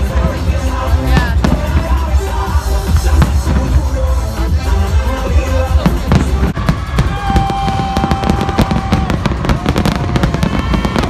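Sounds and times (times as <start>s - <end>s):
fireworks bangs and crackles: 0.0s - 11.0s
music with long held notes: 0.0s - 11.0s.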